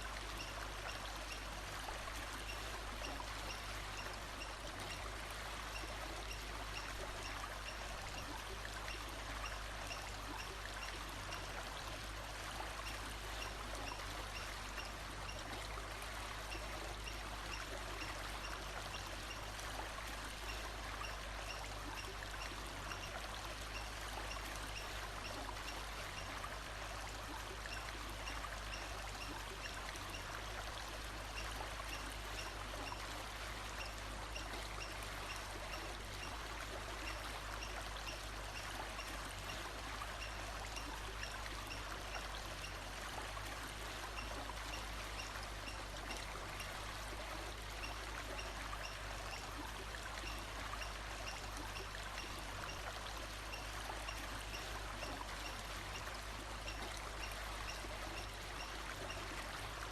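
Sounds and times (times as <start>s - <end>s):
stream of water running: 0.0s - 59.9s.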